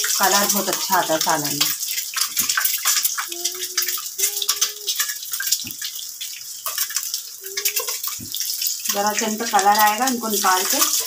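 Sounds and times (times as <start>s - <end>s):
eggs sizzling in hot oil: 0.0s - 11.0s.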